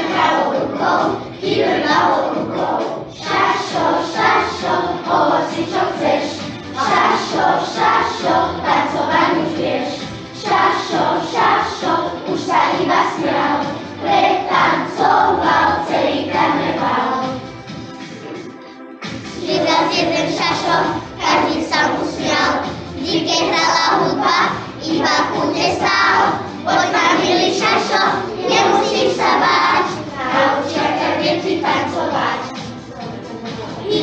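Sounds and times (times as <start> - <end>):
young children singing: 0.0 - 17.5, 19.0 - 34.0
music: 0.0 - 34.0.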